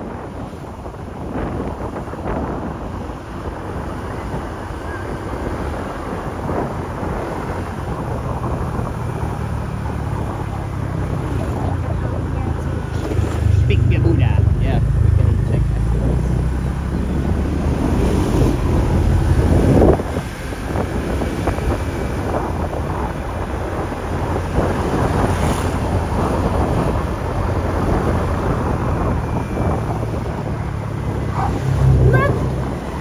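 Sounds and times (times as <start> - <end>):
road noise: 0.0 - 33.0
wind buffeting microphone: 0.0 - 33.0
scooter engine: 2.8 - 33.0.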